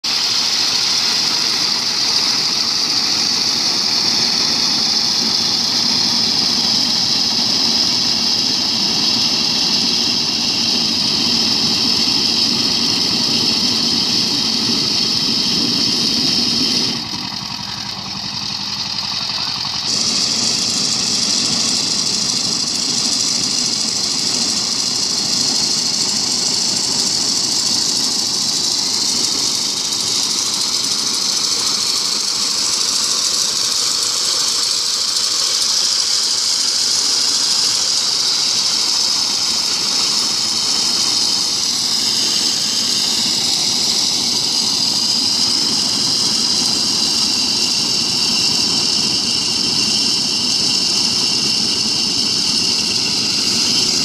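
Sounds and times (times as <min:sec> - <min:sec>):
high hiss: 0:00.0 - 0:54.0
tiller engine running under load: 0:00.0 - 0:54.0.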